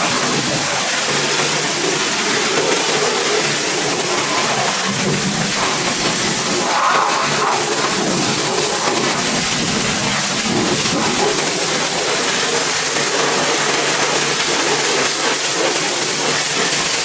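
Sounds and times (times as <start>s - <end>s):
pressure washer spraying: 0.0s - 17.0s.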